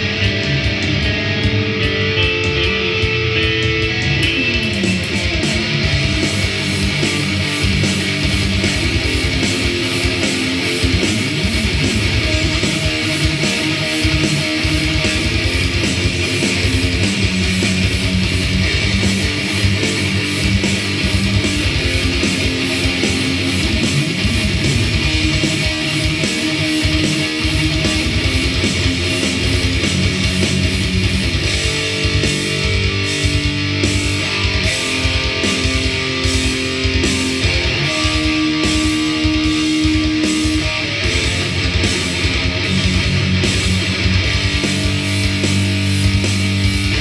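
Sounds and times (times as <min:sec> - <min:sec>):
heavy metal song: 0:00.0 - 0:47.0
rapid kick drum hits: 0:04.7 - 0:47.0.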